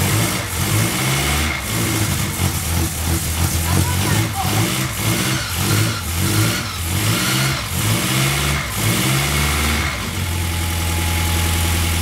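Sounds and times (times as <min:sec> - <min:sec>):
car engine running unevenly: 0:00.0 - 0:12.0.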